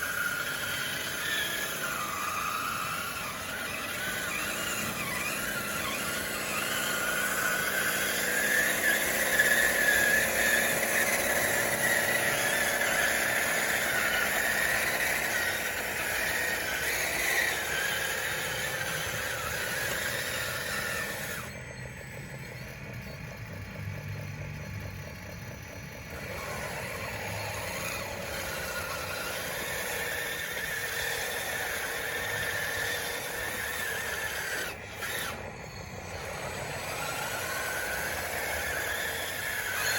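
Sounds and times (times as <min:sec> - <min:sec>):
toy bulldozer motor whining: 0:00.0 - 0:39.9.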